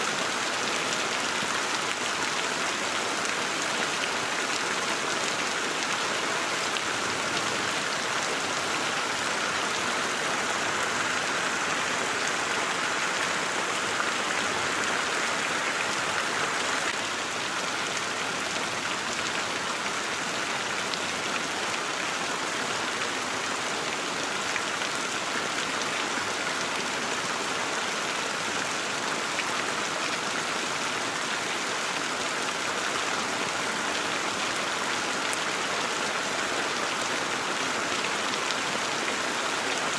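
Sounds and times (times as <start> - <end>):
heavy rain on leaves and ground: 0.0 - 39.9.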